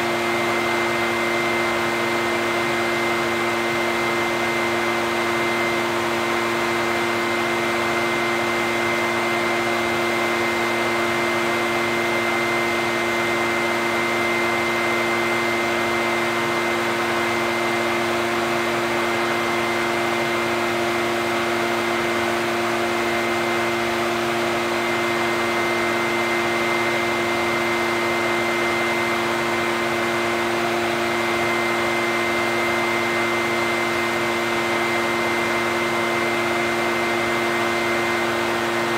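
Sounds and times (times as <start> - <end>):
leaf blower running: 0.0 - 38.9.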